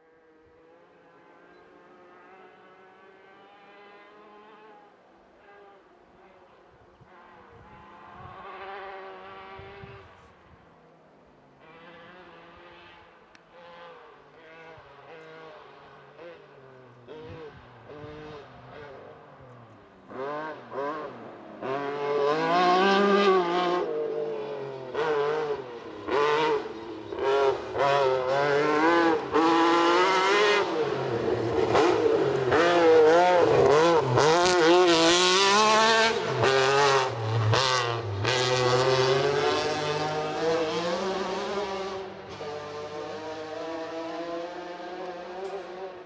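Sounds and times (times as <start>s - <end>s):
rally car engine revving: 7.1s - 10.1s, 11.6s - 46.0s.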